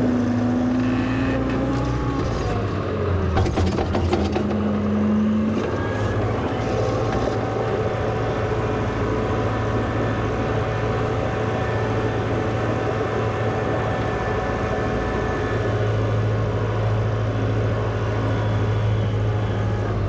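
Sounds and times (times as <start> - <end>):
wheel loader engine running: 0.0 - 20.0.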